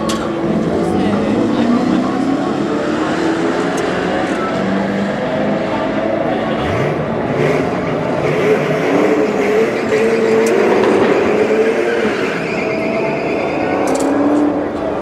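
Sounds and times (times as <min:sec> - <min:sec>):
racing car engine at full throttle: 0:00.0 - 0:15.0.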